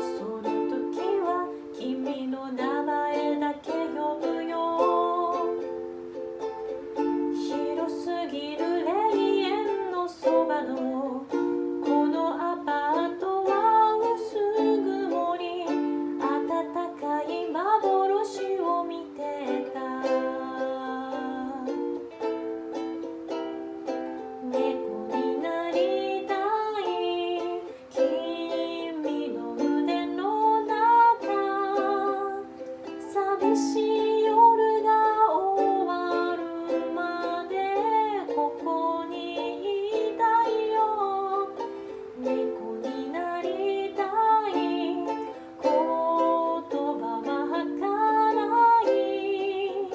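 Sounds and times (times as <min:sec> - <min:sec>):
person singing: 0:00.0 - 0:49.9
ukulele strumming: 0:00.0 - 0:49.9.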